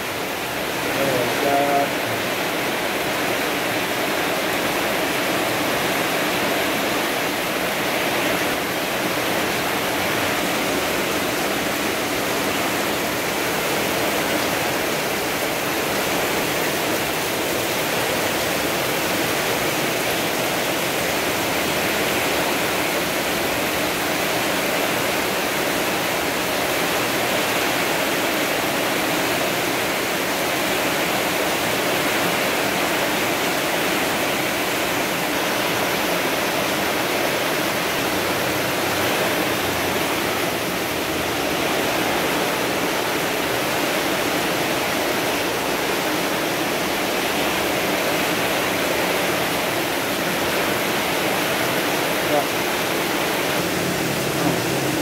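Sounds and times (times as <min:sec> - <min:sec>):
hard rain falling: 0:00.0 - 0:55.0.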